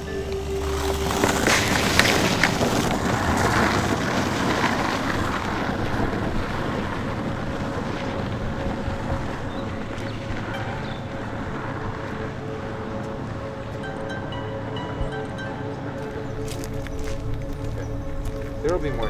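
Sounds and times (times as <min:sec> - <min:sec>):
steady rolling rumble: 0:00.0 - 0:19.0
wind buffeting microphone: 0:00.0 - 0:19.0.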